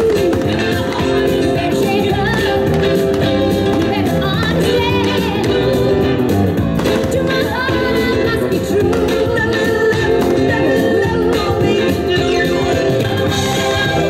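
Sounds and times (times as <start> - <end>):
loud song with singing and instruments: 0.0 - 14.0.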